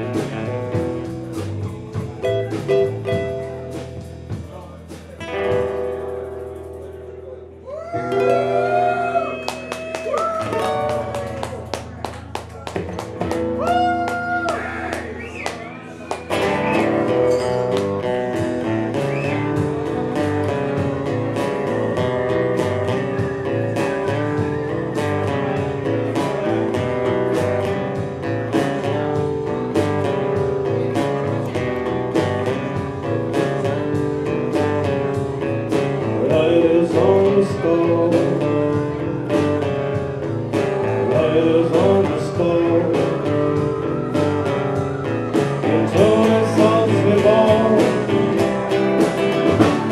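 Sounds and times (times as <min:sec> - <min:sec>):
wavering guitar lead line: 0:00.0 - 0:04.3, 0:05.2 - 0:49.9
electric guitar: 0:00.0 - 0:04.4, 0:05.2 - 0:49.9
strummed acoustic guitar: 0:00.0 - 0:07.4, 0:14.6 - 0:49.9
drums: 0:00.0 - 0:49.9.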